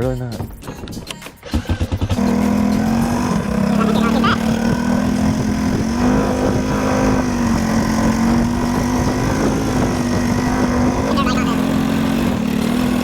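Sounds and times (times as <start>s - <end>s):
engine running steadily: 2.0s - 13.0s.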